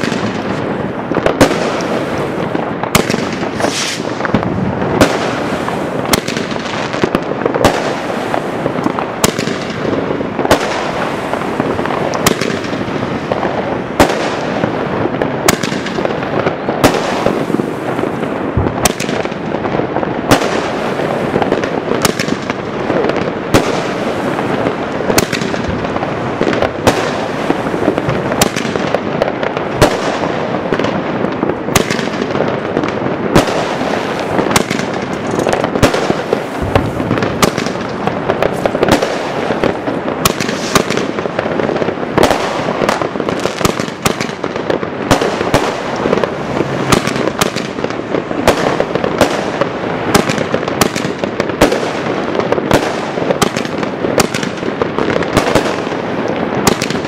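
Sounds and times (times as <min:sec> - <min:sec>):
dense crackling hiss: 0:00.0 - 0:57.0
fireworks bangs: 0:00.0 - 0:57.0.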